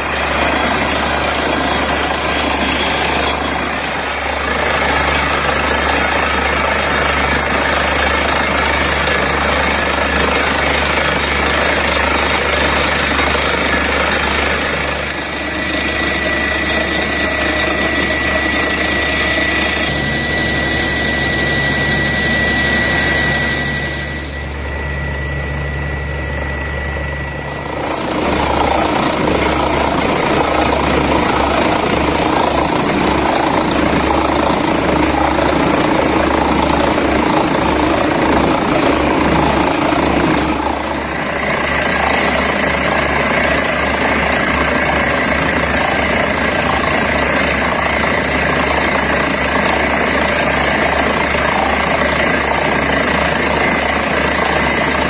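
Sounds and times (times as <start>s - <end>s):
thin high whine: 0.0s - 51.8s
air compressor running: 0.0s - 55.0s
drilling rig running: 0.0s - 55.0s.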